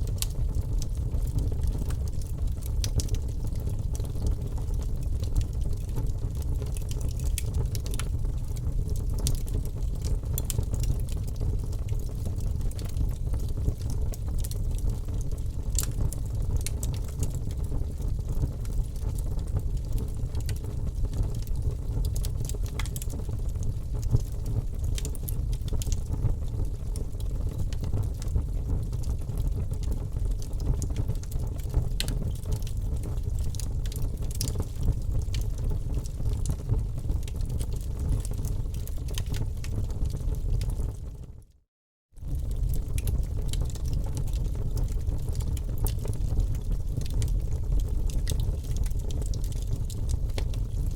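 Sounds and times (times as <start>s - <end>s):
fire crackling and popping: 0.0s - 41.4s, 42.2s - 50.9s
low rumble of flames: 0.0s - 41.5s, 42.2s - 50.9s.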